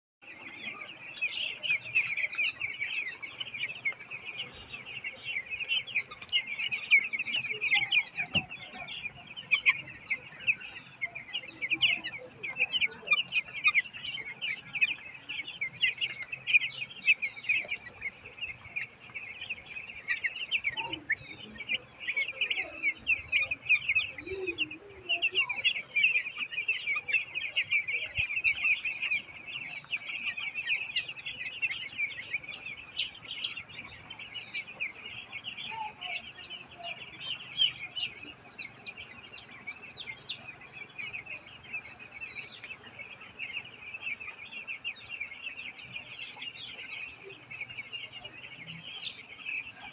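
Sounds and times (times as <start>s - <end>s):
chicks peeping: 0.2s - 49.9s.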